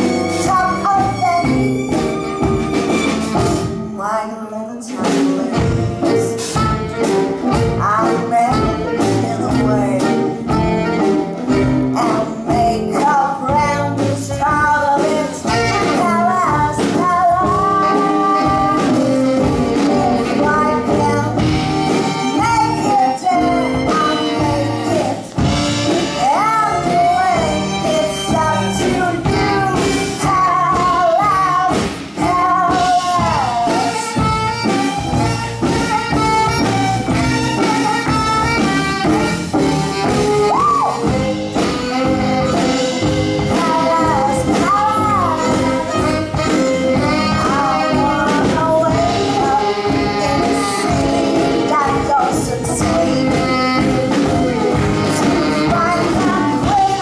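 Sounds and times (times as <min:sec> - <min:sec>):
woman singing: 0:00.0 - 0:02.4, 0:03.3 - 0:57.0
live band with violin: 0:00.0 - 0:57.0.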